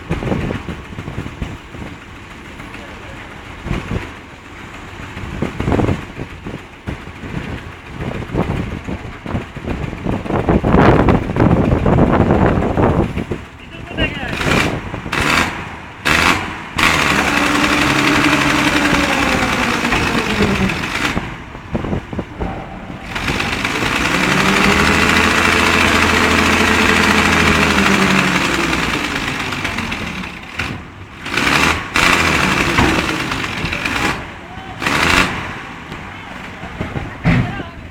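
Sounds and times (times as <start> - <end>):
constant rushing noise: 0.0 - 37.9.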